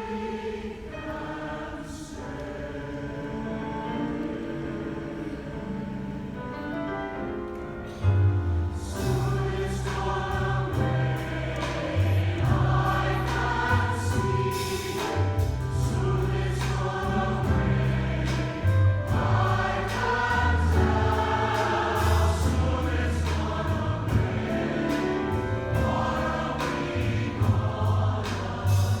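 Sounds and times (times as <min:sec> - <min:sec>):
choir singing: 0:00.0 - 0:08.0, 0:08.8 - 0:29.0.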